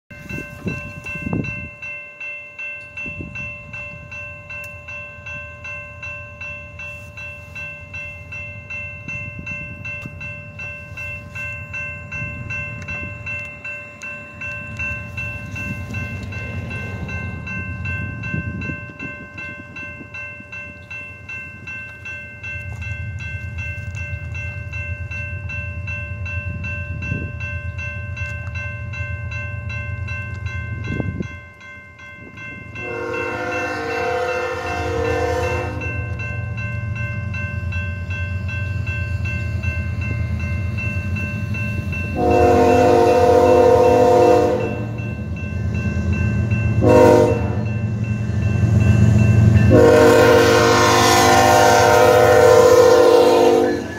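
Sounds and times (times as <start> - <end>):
railroad crossing bell ringing: 0.1 - 53.9
train rumble: 0.1 - 53.9.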